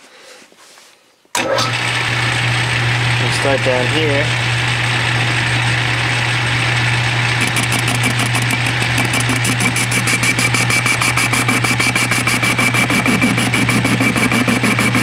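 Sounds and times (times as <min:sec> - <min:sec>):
lathe motor hum: 0:01.4 - 0:15.0.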